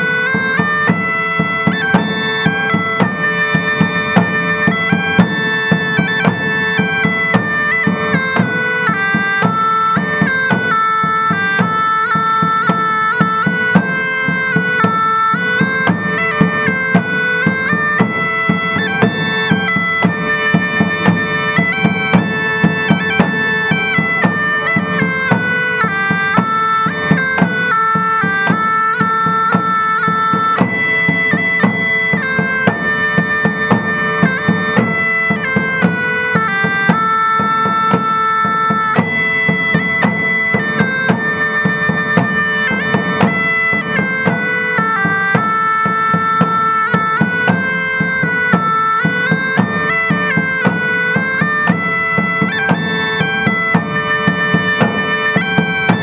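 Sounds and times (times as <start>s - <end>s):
bagpipe tune with drone: 0.0s - 56.0s
drum beating rhythm: 0.0s - 56.0s.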